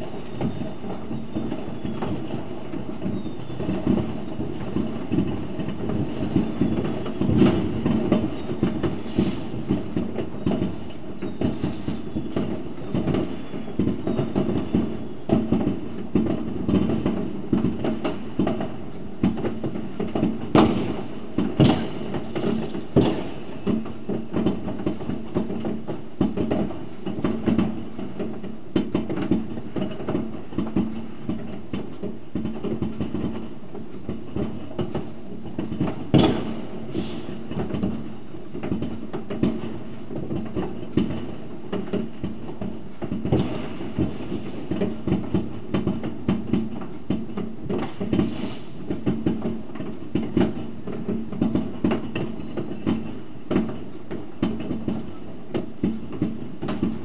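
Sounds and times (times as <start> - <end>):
loud firework bang: 0.0 - 31.5, 35.6 - 38.0, 38.6 - 57.0
distant fireworks crackling: 0.0 - 57.0.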